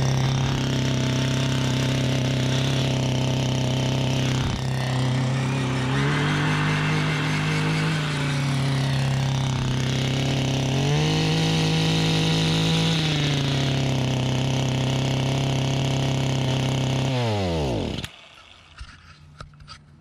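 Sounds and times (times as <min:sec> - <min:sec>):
edger two-stroke engine running: 0:00.0 - 0:19.6.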